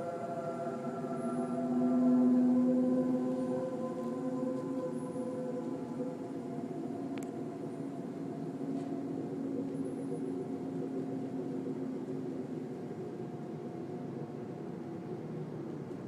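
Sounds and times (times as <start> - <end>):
low drone with held tones: 0.0 - 16.0.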